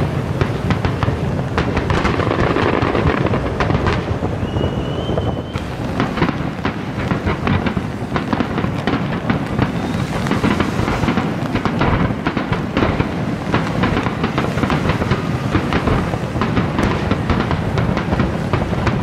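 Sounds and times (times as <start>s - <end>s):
fireworks bursting: 0.0s - 19.0s
fireworks crackling: 0.0s - 19.0s.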